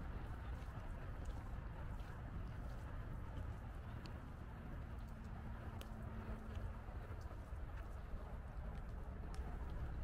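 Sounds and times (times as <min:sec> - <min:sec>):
constant low rumble: 0:00.0 - 0:10.0.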